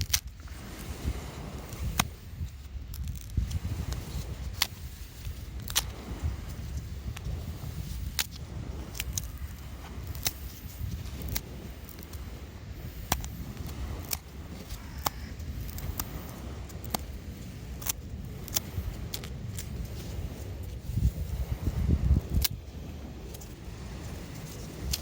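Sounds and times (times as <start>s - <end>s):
low steady rumble: 0.0s - 25.0s
wood fire crackling: 0.0s - 25.0s.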